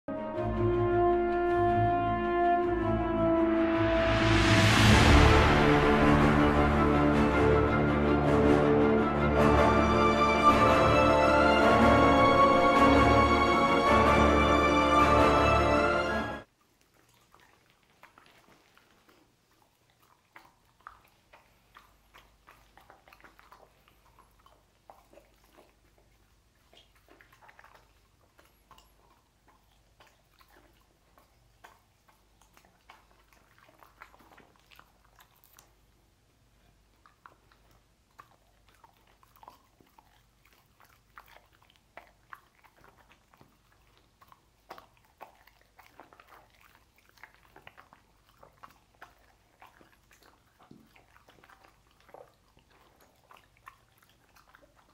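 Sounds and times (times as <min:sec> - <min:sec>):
dog chewing wetly: 0:04.4 - 0:54.9.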